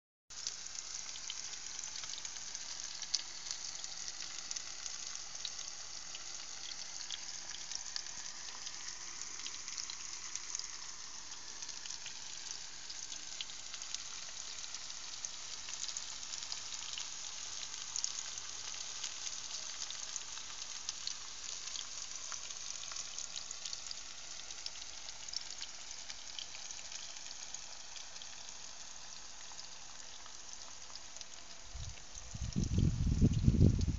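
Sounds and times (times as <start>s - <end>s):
mushrooms sizzling in oil: 0.3s - 33.9s.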